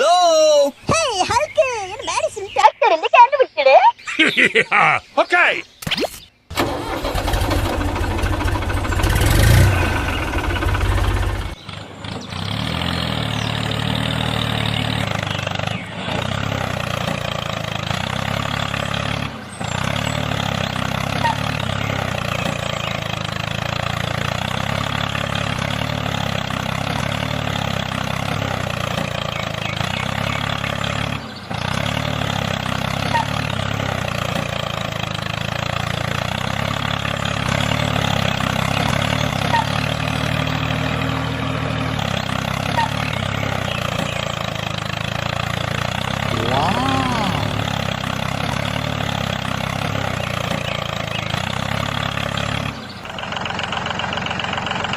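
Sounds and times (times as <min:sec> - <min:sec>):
engine running: 0:06.5 - 0:54.9.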